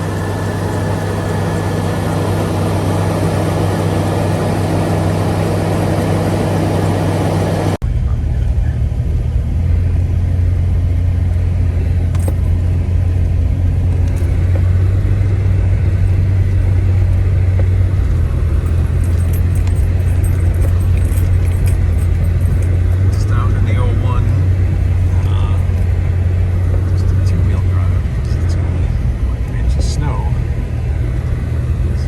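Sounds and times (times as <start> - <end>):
car engine and road drone: 0.0 - 32.0.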